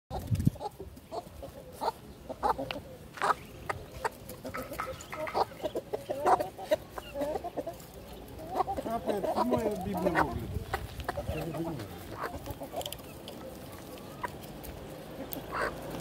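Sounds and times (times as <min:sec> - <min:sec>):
hens clucking: 0:00.1 - 0:16.0.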